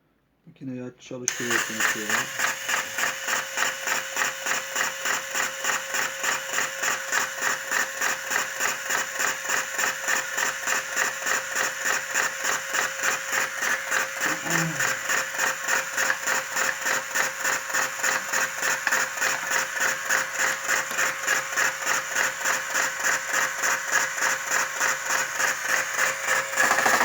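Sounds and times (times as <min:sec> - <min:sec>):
filling mechanism cycling: 0:01.3 - 0:27.0
motor hum: 0:01.3 - 0:27.0.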